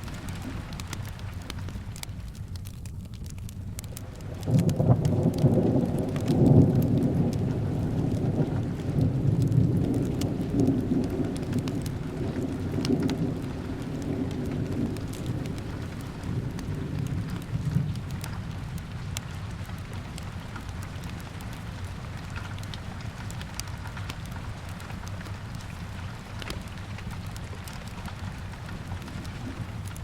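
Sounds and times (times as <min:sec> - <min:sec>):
steady rain: 0:00.0 - 0:30.0
thunder rumbling: 0:00.0 - 0:30.0
wood fire crackling: 0:00.0 - 0:30.0.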